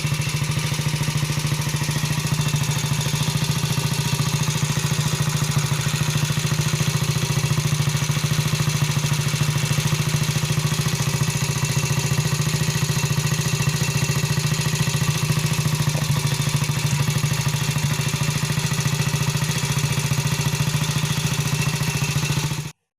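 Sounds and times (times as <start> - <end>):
motorcycle engine idling: 0.0 - 22.8.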